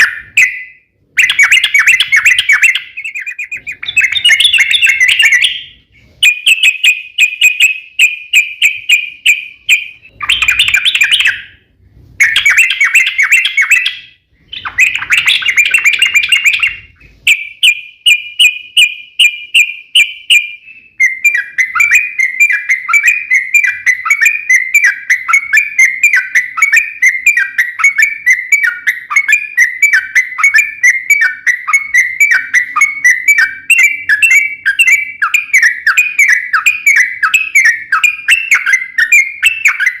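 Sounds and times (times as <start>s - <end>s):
bulbul singing: 0.0s - 40.0s.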